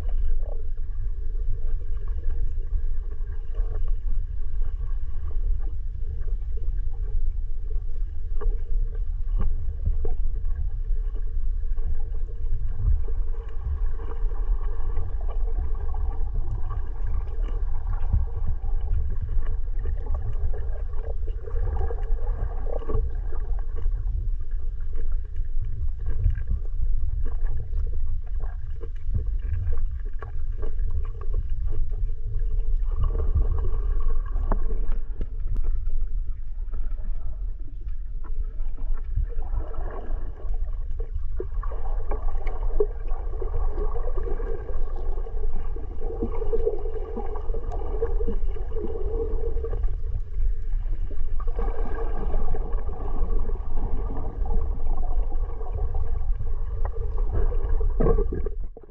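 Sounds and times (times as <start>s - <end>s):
underwater gurgling whirring: 0.0s - 58.9s
underwater rumble of moving water: 0.0s - 58.9s.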